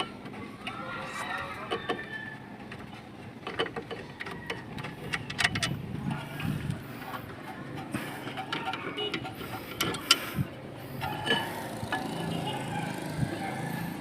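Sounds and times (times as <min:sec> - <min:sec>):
hand tools clicking and knocking: 0:01.6 - 0:14.0.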